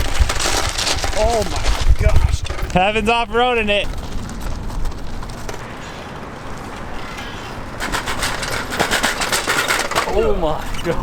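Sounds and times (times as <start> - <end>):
bike rattling over rough ground: 0.0 - 11.0.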